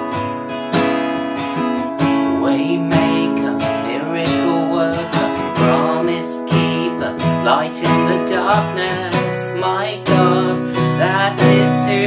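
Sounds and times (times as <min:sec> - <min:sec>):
acoustic guitar strumming chords: 0:00.0 - 0:12.0
man singing: 0:02.1 - 0:12.0.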